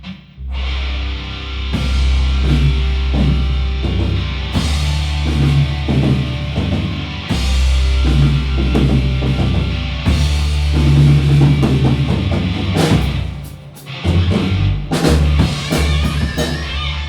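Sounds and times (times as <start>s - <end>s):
held bass notes: 0.4s - 17.0s
rock band playing live: 0.6s - 17.0s
drum kit hits: 1.8s - 16.9s.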